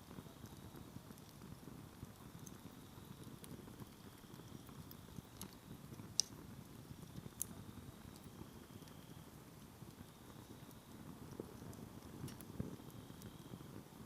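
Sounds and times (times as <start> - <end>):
burning wood popping: 0.0 - 14.0
campfire flames crackling: 0.0 - 14.0.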